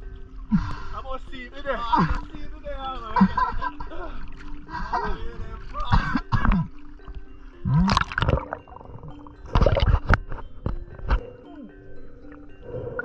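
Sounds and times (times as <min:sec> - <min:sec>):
water splashing and gurgling: 0:00.0 - 0:13.0.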